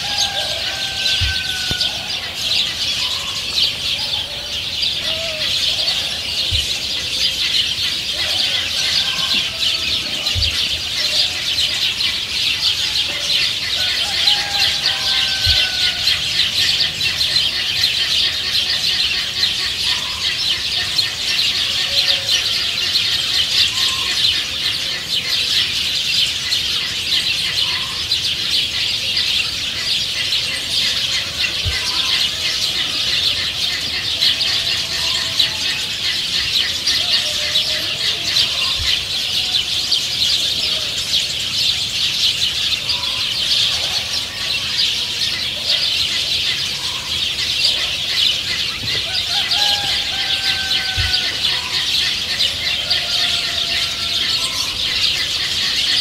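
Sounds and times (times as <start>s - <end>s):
hens clucking: 0.0s - 56.0s
high-pitched chirping chorus: 0.0s - 56.0s.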